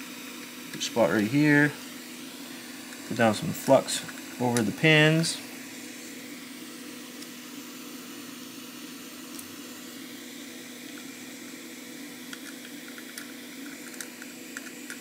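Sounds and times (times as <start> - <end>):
small fan humming: 0.0 - 15.0.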